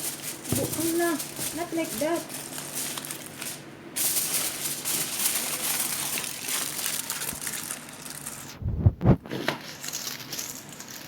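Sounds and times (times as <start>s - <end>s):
rustling crinkling handling noise: 0.0s - 8.6s, 9.2s - 11.0s.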